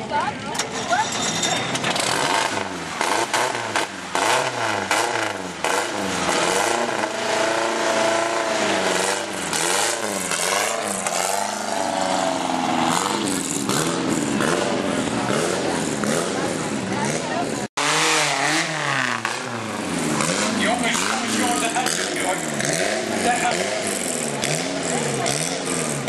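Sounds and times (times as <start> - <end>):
car pulling away: 1.7 - 26.0
racing car engine revving: 1.8 - 26.0.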